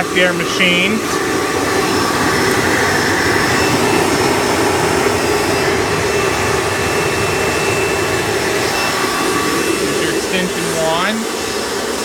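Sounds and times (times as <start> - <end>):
vacuum cleaner motor whining: 0.0 - 12.0.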